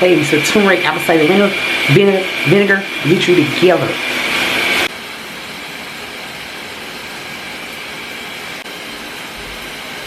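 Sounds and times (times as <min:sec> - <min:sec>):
shower water running: 0:00.0 - 0:10.0.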